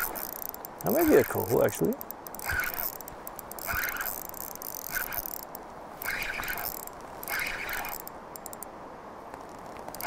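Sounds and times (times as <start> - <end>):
fishing reel clicking and buzzing: 0.0 - 8.7.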